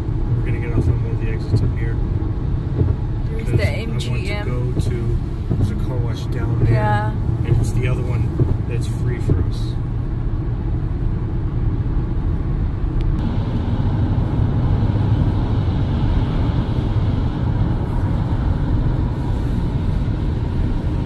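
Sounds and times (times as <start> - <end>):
car road noise on wet road: 0.0 - 21.0.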